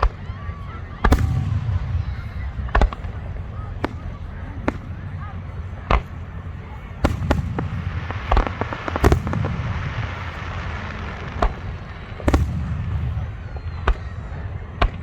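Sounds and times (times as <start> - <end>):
fireworks booming: 0.0 - 15.0
fireworks crackling: 1.0 - 15.0.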